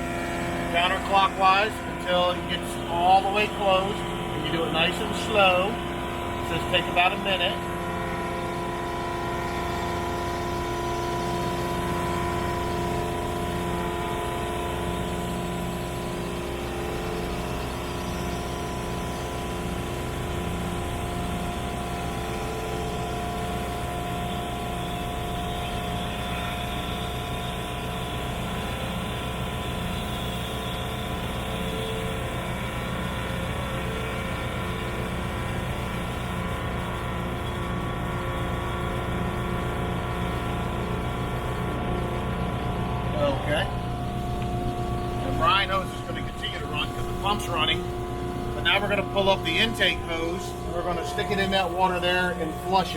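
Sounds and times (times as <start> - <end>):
boat engine: 0.0 - 52.9
high-pressure pump running: 0.0 - 52.9.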